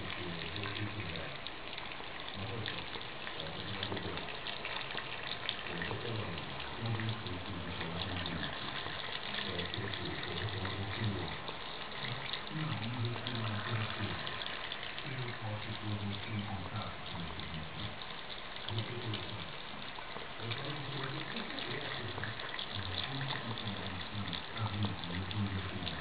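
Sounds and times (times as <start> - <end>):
cat drinking water: 0.0 - 26.0
tap water running into sink: 0.0 - 26.0.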